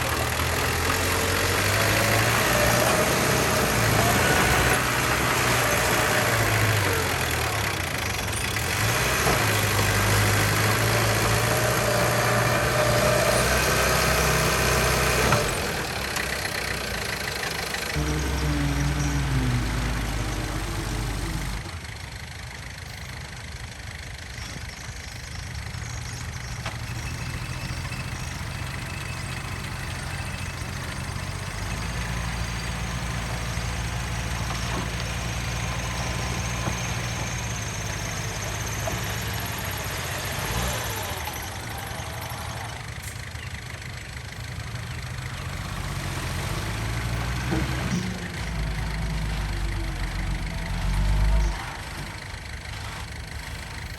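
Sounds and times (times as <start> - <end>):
heavy equipment diesel engine: 0.0 - 53.9.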